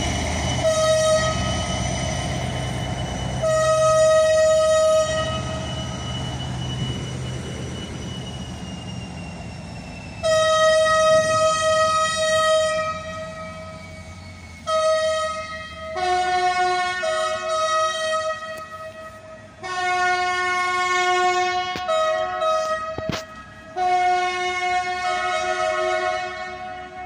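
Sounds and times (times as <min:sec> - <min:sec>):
train horns blowing: 0:00.0 - 0:06.9, 0:10.2 - 0:27.0
diesel engine rumble: 0:00.0 - 0:25.8.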